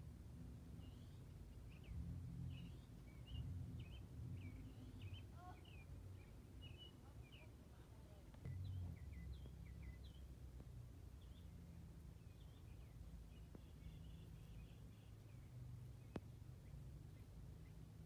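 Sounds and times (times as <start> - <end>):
low background rumble: 0.0 - 18.0
birds chirping: 0.6 - 18.0.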